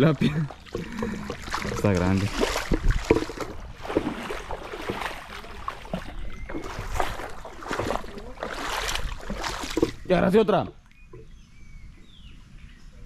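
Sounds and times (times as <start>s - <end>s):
river water splashing: 0.0s - 11.3s.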